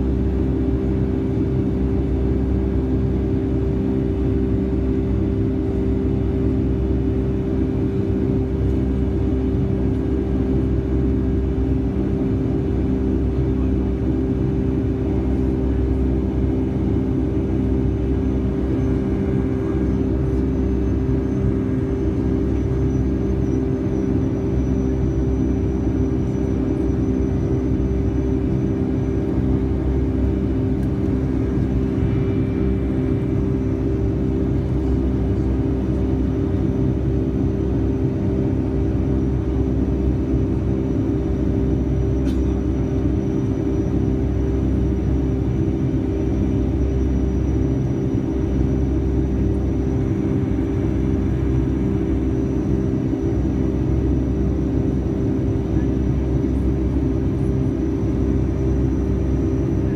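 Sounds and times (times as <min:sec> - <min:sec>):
jet engine drone and air rush: 0:00.0 - 0:59.9
low hum tone: 0:00.0 - 0:59.9.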